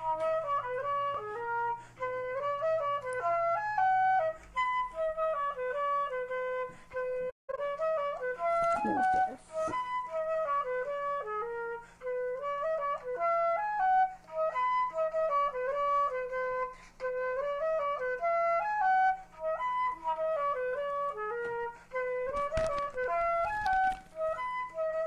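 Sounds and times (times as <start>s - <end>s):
flute melody: 0.0s - 25.0s.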